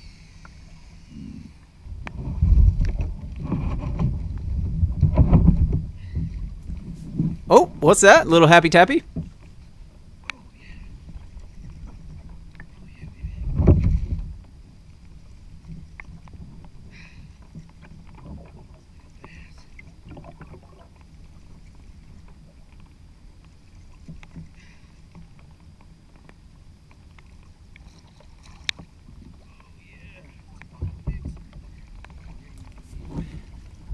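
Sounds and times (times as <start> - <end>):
water and wind around hull: 0.0 - 33.9.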